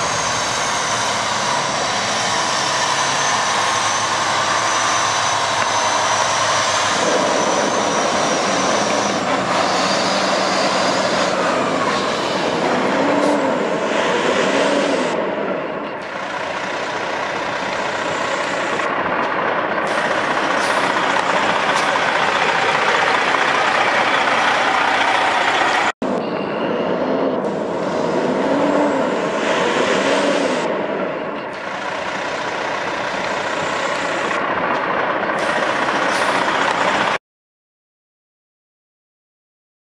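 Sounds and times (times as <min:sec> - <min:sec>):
truck diesel engine running: 0:00.0 - 0:37.2.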